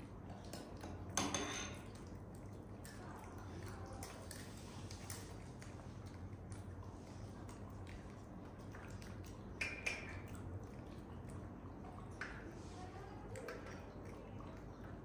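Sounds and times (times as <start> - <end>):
monkey eating wet smacking: 0.0 - 1.2, 1.8 - 15.0.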